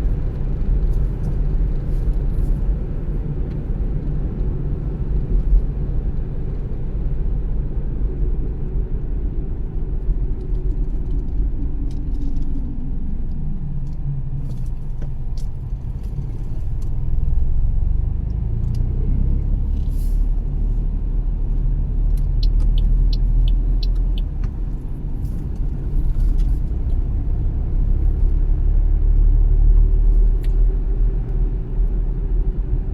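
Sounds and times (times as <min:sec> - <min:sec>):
car engine and tyres rumbling: 0:00.0 - 0:32.9.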